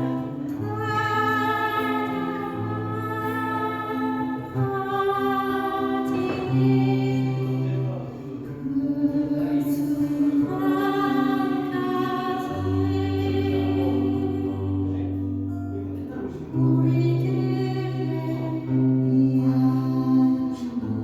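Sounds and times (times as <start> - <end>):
woman singing slow ballad: 0.0 - 21.0.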